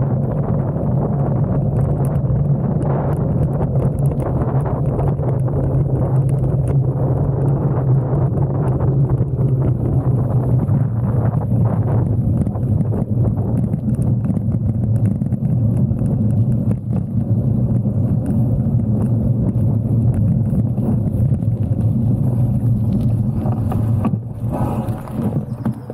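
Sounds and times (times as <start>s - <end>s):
bike tyres rumbling on dirt path: 0.0s - 25.9s.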